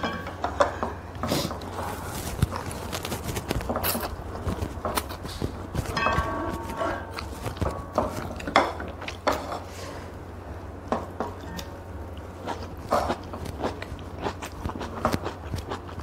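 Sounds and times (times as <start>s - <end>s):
low steady hum: 0.0s - 16.0s
chewing: 1.3s - 9.7s, 11.3s - 16.0s.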